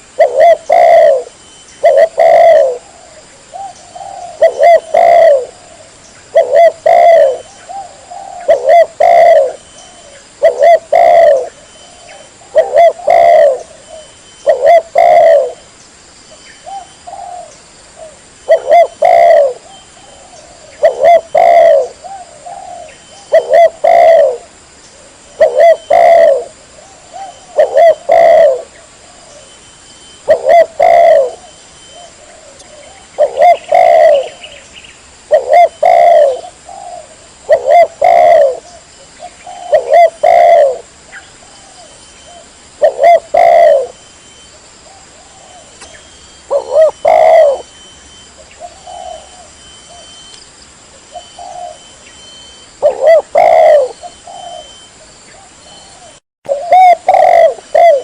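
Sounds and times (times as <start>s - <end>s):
dove cooing: 0.0s - 15.7s, 16.6s - 34.6s, 35.2s - 50.3s, 51.0s - 58.0s.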